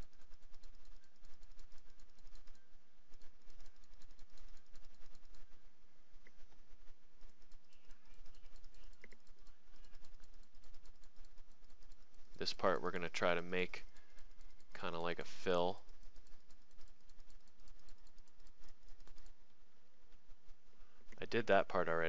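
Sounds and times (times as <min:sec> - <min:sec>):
mouse and keyboard clicking: 0:00.0 - 0:05.6, 0:06.2 - 0:22.0.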